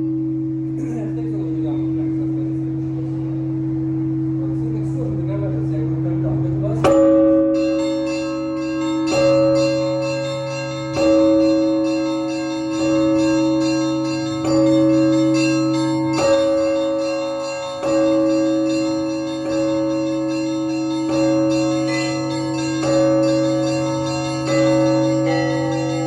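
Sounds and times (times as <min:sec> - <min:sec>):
church bells ringing: 0:00.0 - 0:26.0
constant low hum: 0:00.0 - 0:26.0
higher bells changing notes: 0:00.0 - 0:26.0.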